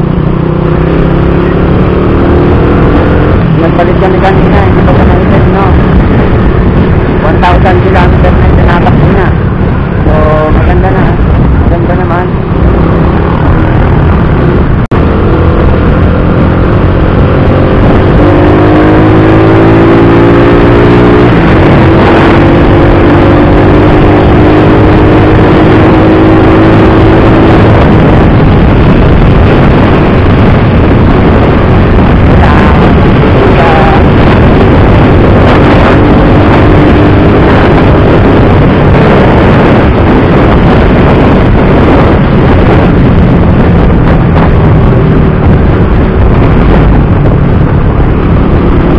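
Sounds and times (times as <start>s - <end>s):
motorcycle engine speeding up: 0.0s - 48.9s
wind buffeting microphone: 0.0s - 48.9s.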